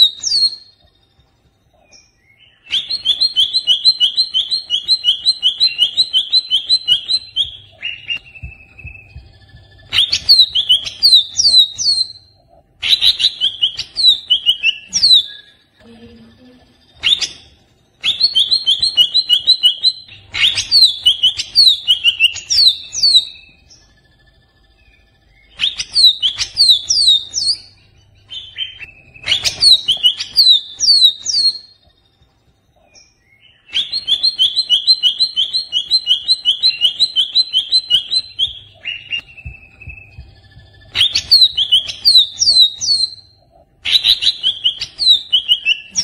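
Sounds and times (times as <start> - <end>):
bird chirping and whistling: 0.0 - 1.0, 1.8 - 15.9, 16.8 - 32.0, 32.8 - 46.0.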